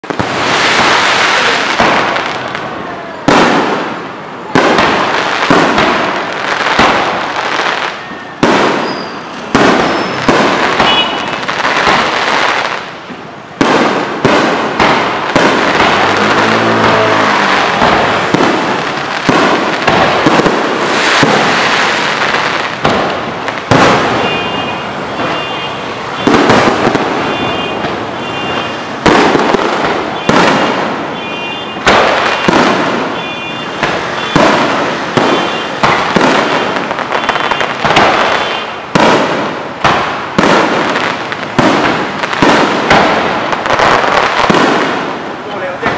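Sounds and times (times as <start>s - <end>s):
fireworks bangs with crackle: 0.0s - 45.9s.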